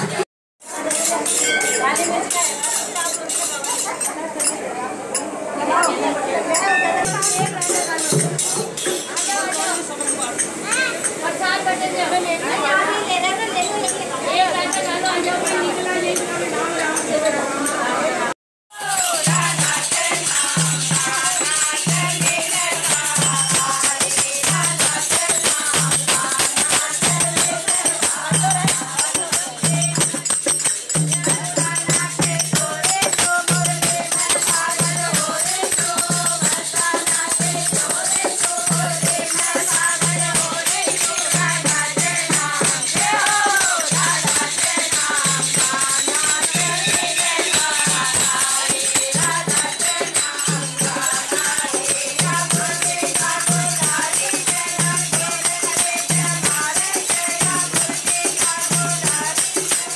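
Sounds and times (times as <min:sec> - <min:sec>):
fast jingling percussion: 0:00.0 - 0:11.3, 0:13.3 - 0:17.9, 0:18.7 - 0:59.9
women singing devotional song: 0:00.0 - 0:59.9.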